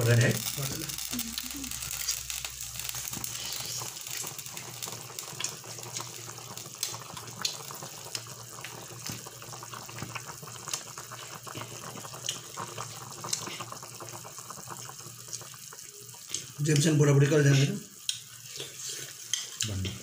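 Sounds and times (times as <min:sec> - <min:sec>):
soup bubbling in metal pot: 0:00.0 - 0:20.0.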